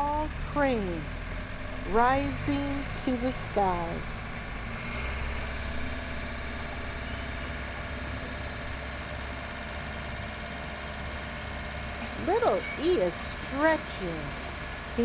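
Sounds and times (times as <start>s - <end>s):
crane engine humming: 0.0s - 15.0s.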